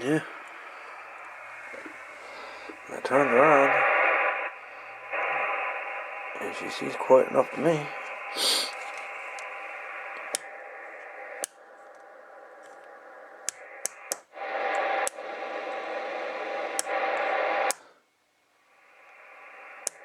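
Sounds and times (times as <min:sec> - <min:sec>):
radio receiver static: 0:00.0 - 0:18.0, 0:18.6 - 0:20.0.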